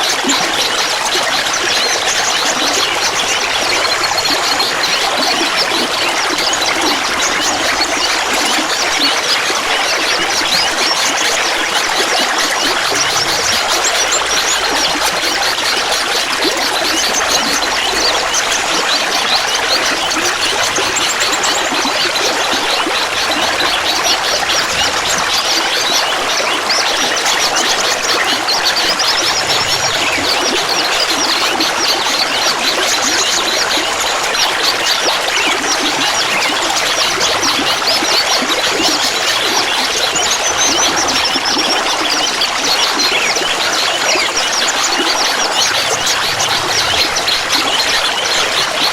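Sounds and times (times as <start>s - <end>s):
shallow water babbling: 0.0s - 48.9s.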